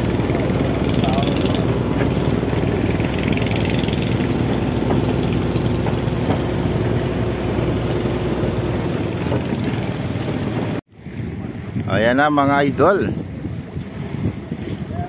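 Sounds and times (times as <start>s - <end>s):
boat engine running: 0.0s - 14.9s
water noise: 0.0s - 15.0s
wind: 0.0s - 15.0s.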